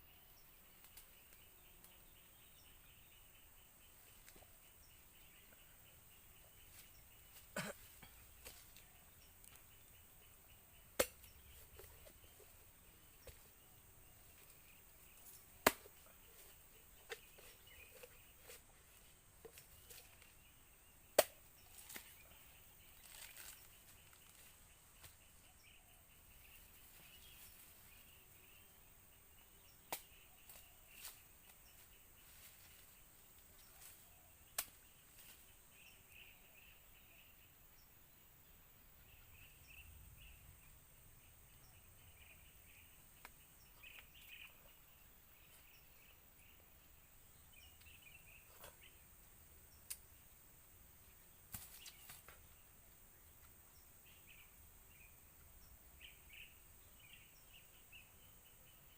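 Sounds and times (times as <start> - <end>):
soft scattered chirps: 0.0 - 37.8, 39.0 - 58.9
steady high hiss: 0.0 - 58.9.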